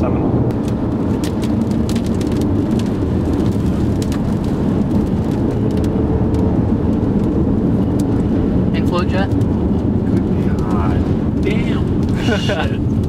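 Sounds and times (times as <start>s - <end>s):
wind and road noise inside car: 0.0s - 13.0s.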